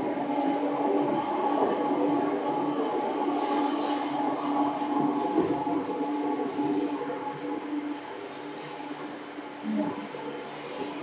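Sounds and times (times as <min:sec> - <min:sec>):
electric train hum: 0:00.0 - 0:11.0
wheel and rail noise: 0:00.0 - 0:11.0.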